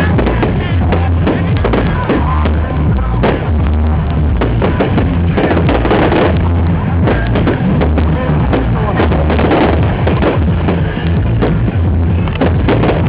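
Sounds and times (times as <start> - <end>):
loud music with heavy bass: 0.0 - 13.0.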